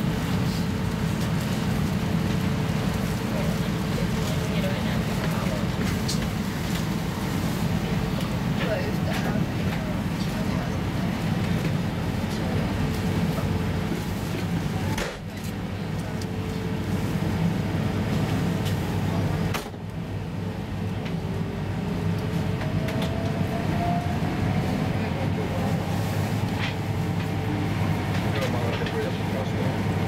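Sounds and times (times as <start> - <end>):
train running gear rumble: 0.0 - 30.0.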